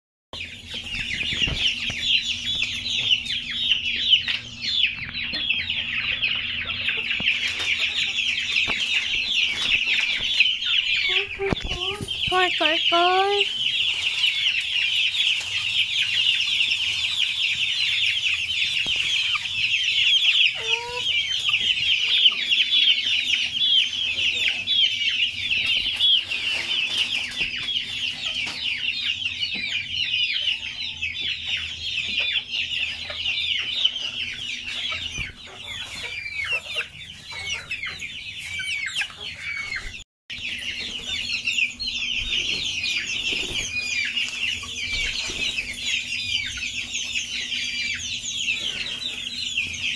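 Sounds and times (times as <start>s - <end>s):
chicks peeping: 0.4s - 49.9s.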